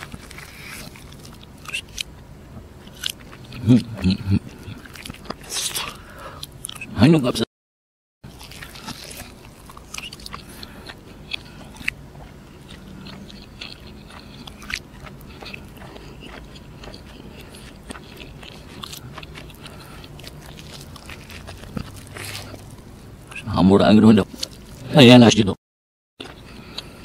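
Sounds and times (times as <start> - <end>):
man chewing with wet mouth clicks: 0.0 - 6.9, 8.3 - 23.4, 26.2 - 27.0.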